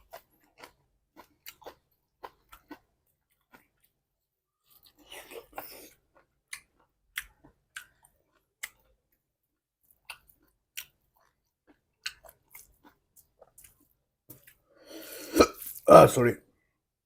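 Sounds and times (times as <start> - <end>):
person chewing food: 0.0 - 15.8.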